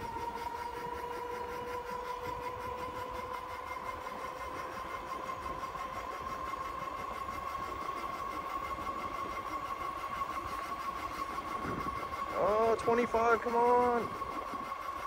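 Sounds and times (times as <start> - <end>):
electric motor whining: 0.0 - 15.0
wind: 0.0 - 15.0.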